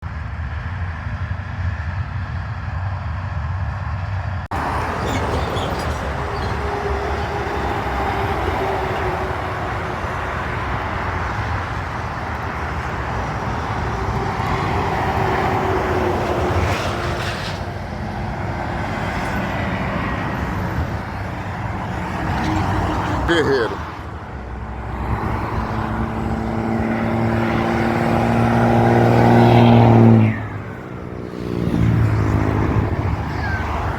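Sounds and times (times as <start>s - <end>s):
diesel engine rumble: 0.0s - 33.9s.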